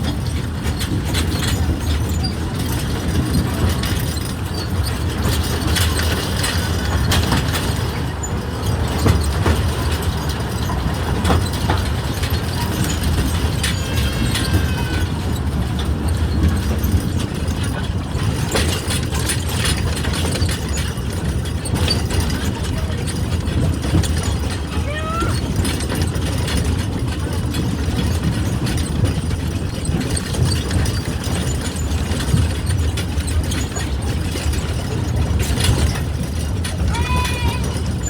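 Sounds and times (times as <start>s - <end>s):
ride train rumbling on track: 0.0s - 38.0s
wheels clicking and knocking: 0.0s - 38.0s.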